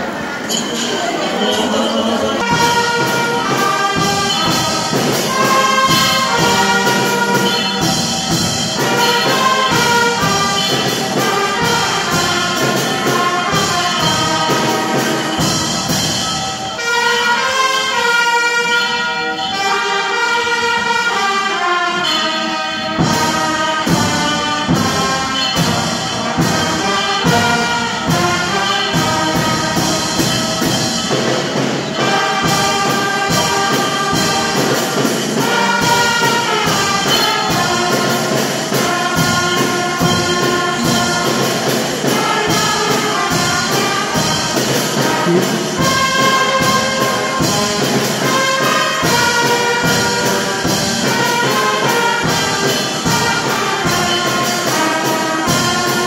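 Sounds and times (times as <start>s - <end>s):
brass melody: 0.0s - 56.0s
orchestral backing: 0.0s - 56.0s.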